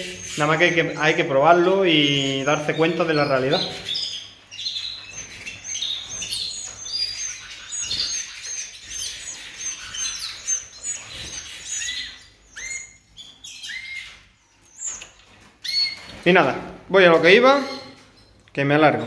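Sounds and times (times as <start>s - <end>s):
canaries chirping and whistling: 0.0s - 19.0s.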